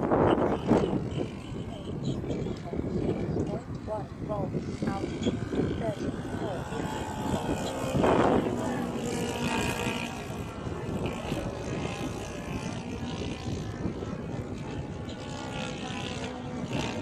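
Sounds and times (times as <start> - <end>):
model airplane propeller engine: 0.0 - 17.0.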